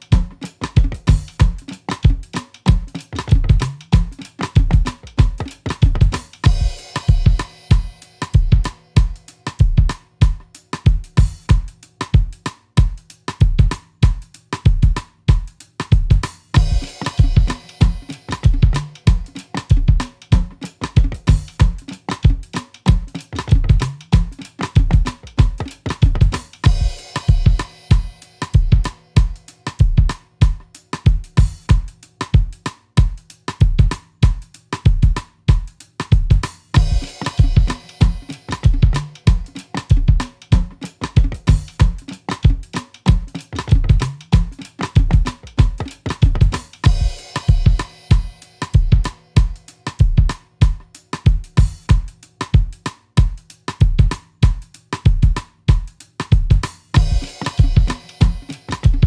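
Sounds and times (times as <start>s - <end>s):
background music with drum beat: 0.0s - 59.0s.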